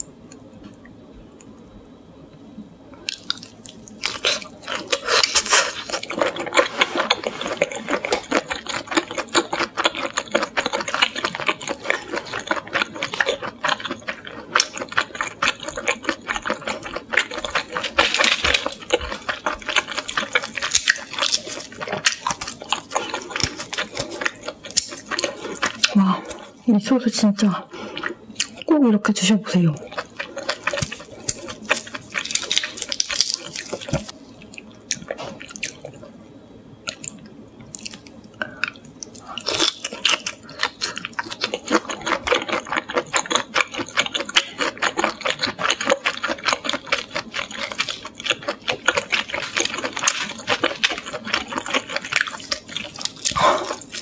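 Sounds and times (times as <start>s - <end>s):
wet chewing: 3.0s - 26.6s, 29.8s - 36.0s, 36.8s - 54.0s.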